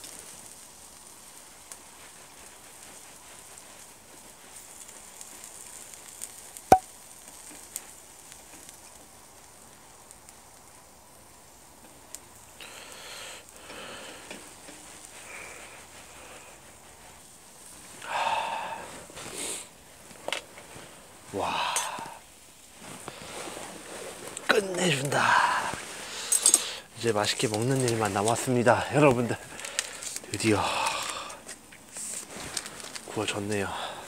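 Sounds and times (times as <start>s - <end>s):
steak sizzling on hot stone: 0.0s - 34.0s.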